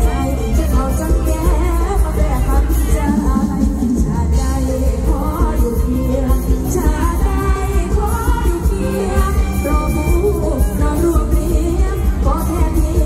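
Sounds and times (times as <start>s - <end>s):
band playing through loud speakers: 0.0s - 13.0s
woman singing into a microphone: 0.0s - 13.0s.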